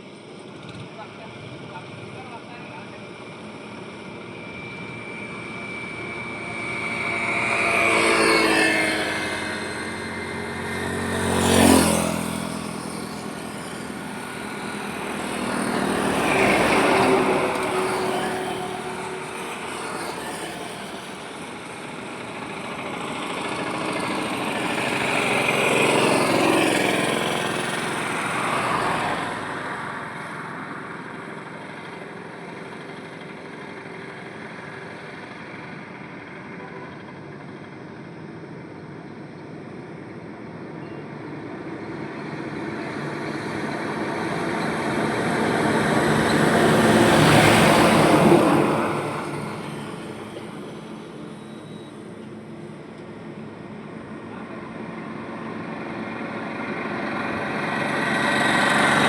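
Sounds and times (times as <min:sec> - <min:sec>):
highway traffic passing: 0:02.2 - 0:59.0.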